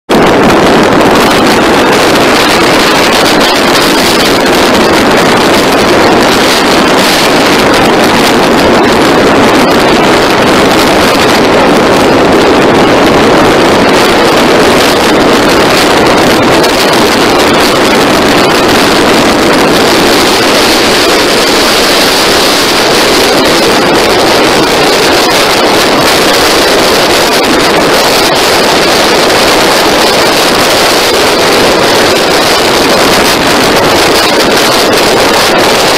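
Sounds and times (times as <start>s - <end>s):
wind rushing on microphone: 0.0s - 35.9s
motorcycle engine running: 0.3s - 35.9s.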